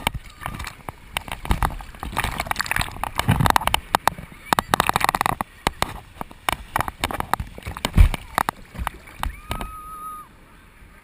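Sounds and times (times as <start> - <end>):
sharp knocks and clicks: 0.0 - 9.7
water sloshing and splashing: 0.0 - 9.9.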